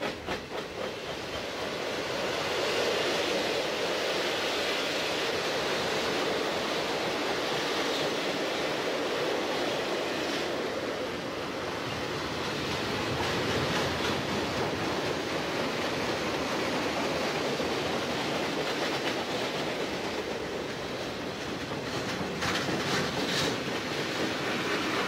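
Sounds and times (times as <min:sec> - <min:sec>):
steel wheels rolling on rails: 0:00.0 - 0:25.0.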